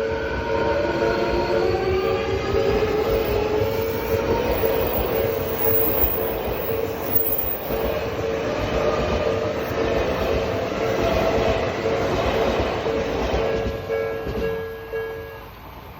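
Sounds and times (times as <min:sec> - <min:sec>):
electric train rumble and rail clatter: 0:00.0 - 0:15.9.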